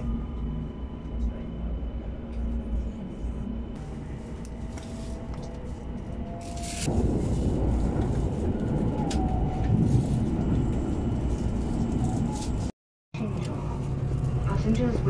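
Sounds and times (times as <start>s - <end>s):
train rumble inside cabin: 0.0s - 15.0s.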